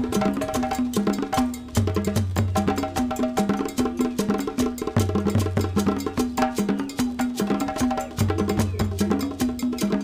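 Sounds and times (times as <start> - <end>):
music with percussive beat: 0.0 - 10.0.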